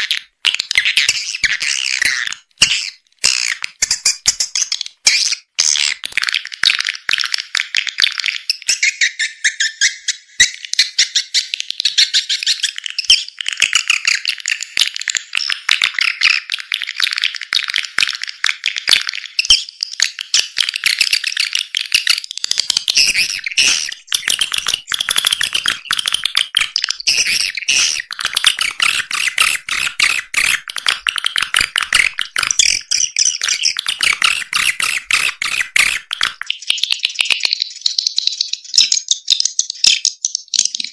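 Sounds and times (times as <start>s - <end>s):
swiftlets chirping and clicking: 0.0s - 40.9s.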